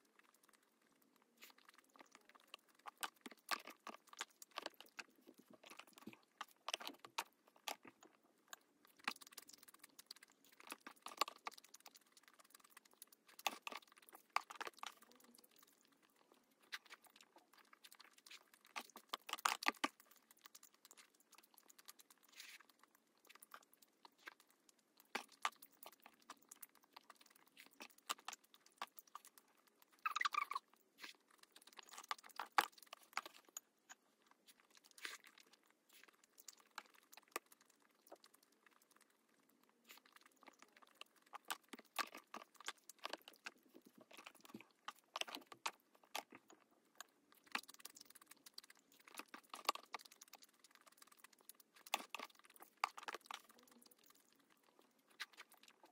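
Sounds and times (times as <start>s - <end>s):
close chewing and mouth sounds: 0.0s - 55.9s.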